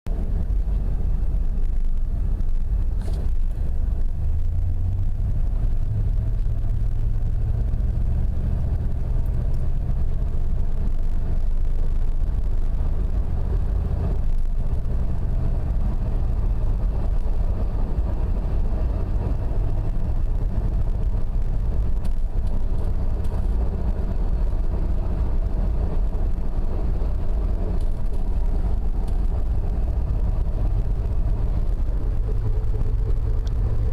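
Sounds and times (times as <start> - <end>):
differential drone and rumble: 0.1 - 33.9.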